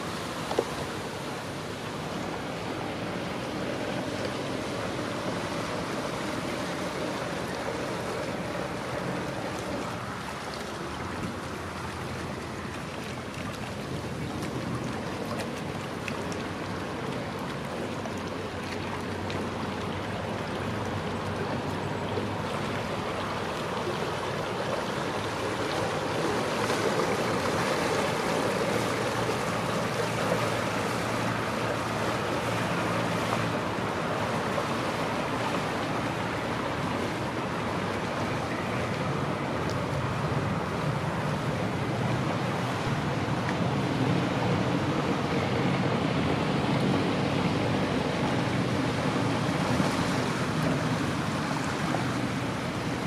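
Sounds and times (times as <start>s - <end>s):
boat engines humming: 0.0s - 53.0s
river water lapping: 0.0s - 53.0s.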